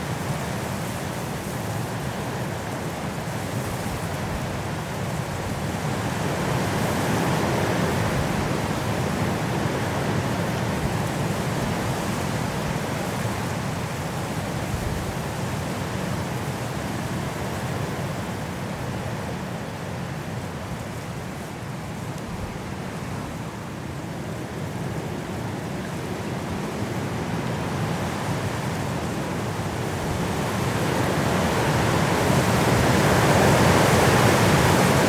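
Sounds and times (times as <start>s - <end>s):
strong wind through trees: 0.0s - 35.0s.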